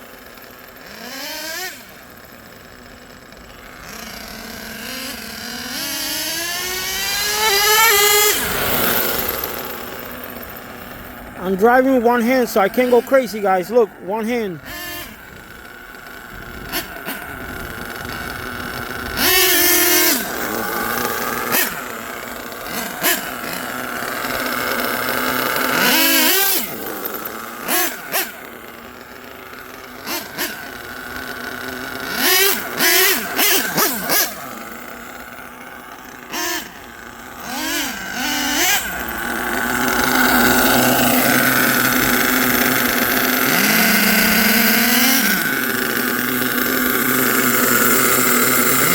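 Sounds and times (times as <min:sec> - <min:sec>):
nitro engines revving: 0:00.0 - 0:48.9.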